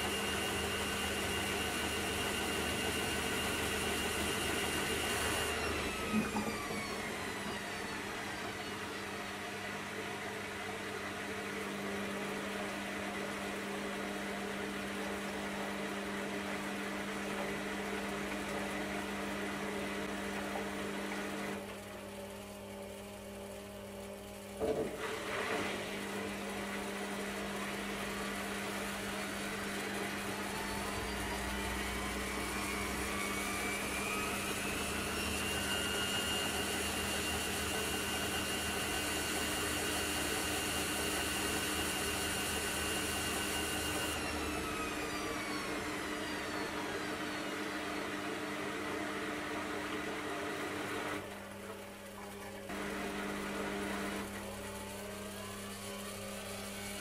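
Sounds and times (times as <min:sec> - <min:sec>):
washing machine motor whine: 0:00.0 - 0:57.0.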